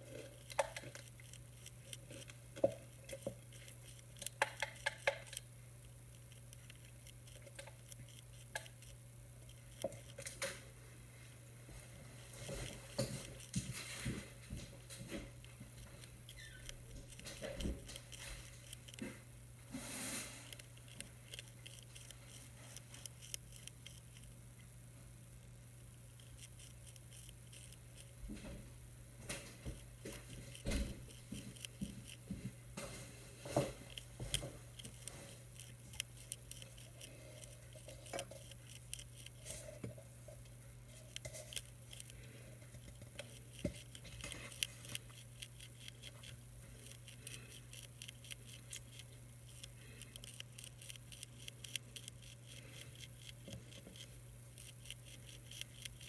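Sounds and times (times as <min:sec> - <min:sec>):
caterpillars chewing leaves: 0:00.0 - 0:10.8, 0:11.6 - 0:24.8, 0:25.4 - 0:56.0
steady low hum: 0:00.0 - 0:56.0.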